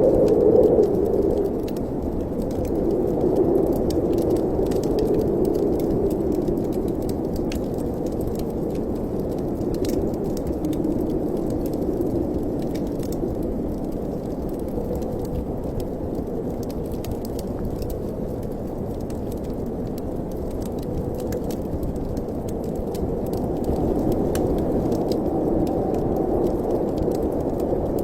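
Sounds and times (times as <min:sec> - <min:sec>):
small crackling clicks: 0:00.0 - 0:28.0
wind howling in chimney: 0:00.0 - 0:28.0.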